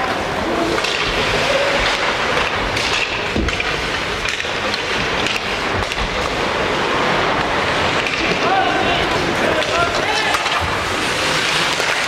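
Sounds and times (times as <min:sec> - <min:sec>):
skates scraping ice: 0:00.0 - 0:12.0
hockey sticks and puck knocking: 0:00.7 - 0:12.0.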